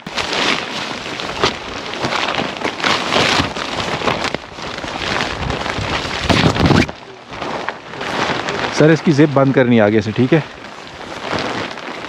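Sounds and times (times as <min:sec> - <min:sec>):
tent fabric rustling: 0:00.0 - 0:12.0.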